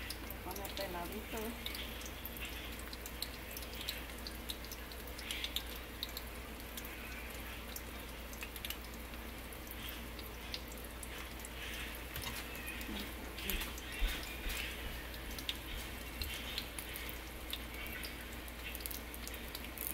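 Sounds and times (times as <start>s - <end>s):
oil sizzling and popping: 0.0s - 19.9s.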